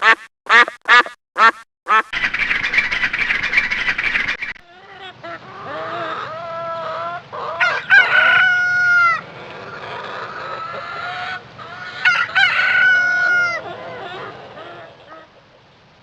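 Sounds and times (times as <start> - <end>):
long drawn-out chicken calls: 1.9 - 16.0
chickens clucking: 2.2 - 15.8.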